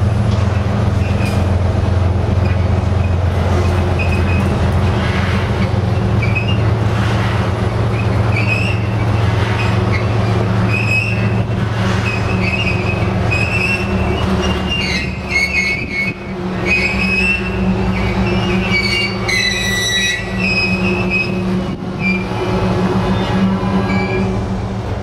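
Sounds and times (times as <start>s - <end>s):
train cars rumbling past: 0.0s - 25.0s
wheels squealing: 2.3s - 24.5s.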